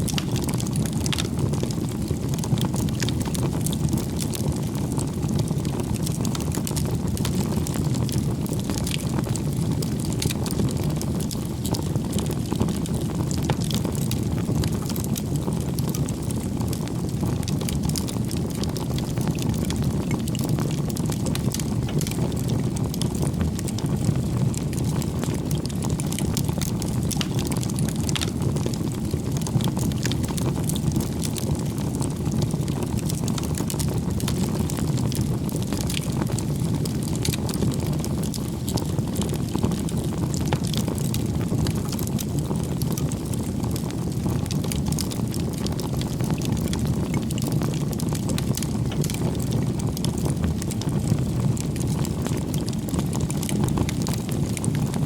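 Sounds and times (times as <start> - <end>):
fire crackling and popping: 0.0 - 55.0
flames rushing: 0.0 - 55.0.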